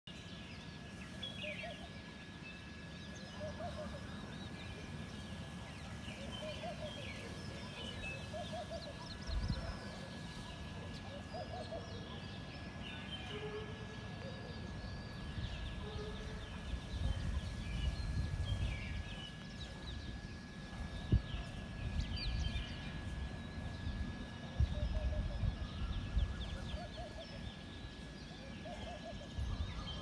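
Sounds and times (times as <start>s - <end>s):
birds chirping: 0.1s - 30.0s
thin steady whine: 0.1s - 30.0s.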